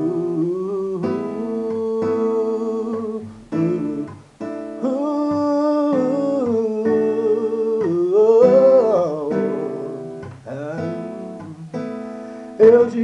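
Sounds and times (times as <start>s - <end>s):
man singing long held vowels: 0.0s - 4.2s, 4.8s - 11.8s, 12.6s - 13.0s
strummed acoustic guitar: 0.0s - 13.0s.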